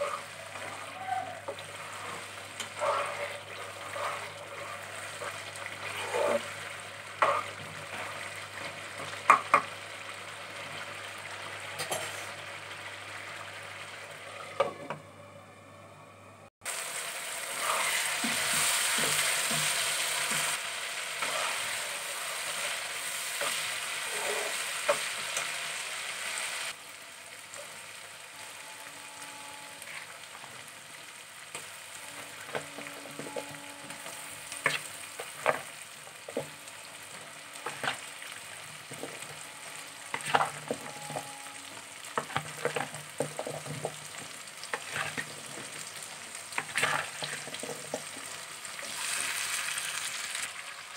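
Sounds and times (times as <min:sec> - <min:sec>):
spices sizzling in a pan: 0:00.0 - 0:14.3, 0:16.6 - 0:50.9.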